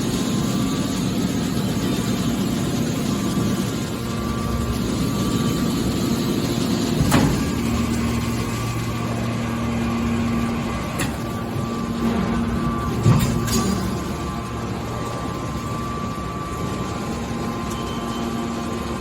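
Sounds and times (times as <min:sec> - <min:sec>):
hydraulic baler motor hum: 0:00.0 - 0:19.0.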